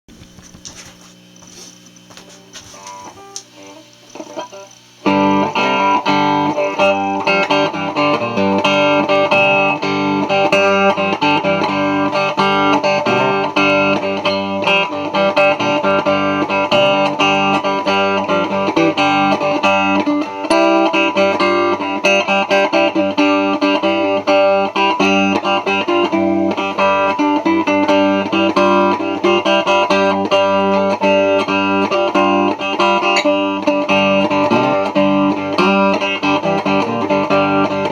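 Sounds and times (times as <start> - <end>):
electric slide guitar: 2.3 - 37.9.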